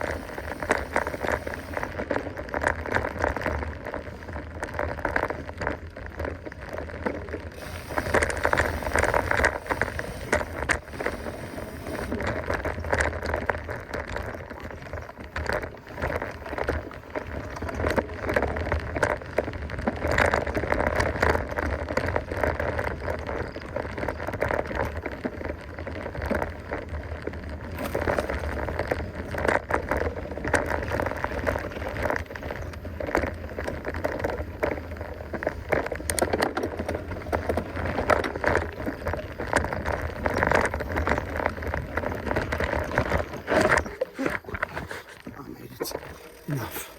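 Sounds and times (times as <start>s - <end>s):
clatter of clicks and rattles: 0.0s - 46.4s
bike tyres crackling over dirt: 0.0s - 46.9s.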